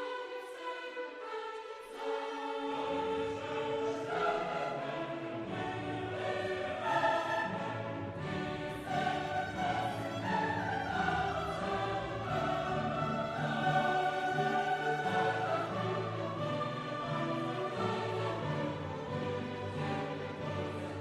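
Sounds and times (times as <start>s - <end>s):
choir singing sustained chords: 0.0s - 21.0s
orchestra playing: 2.3s - 21.0s.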